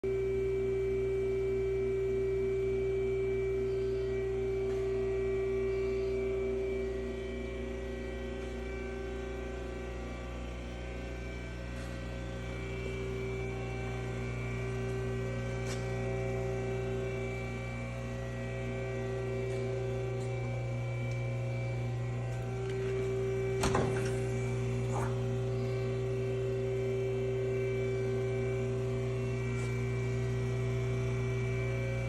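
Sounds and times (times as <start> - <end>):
lathe electric hum and whine: 0.0 - 32.0.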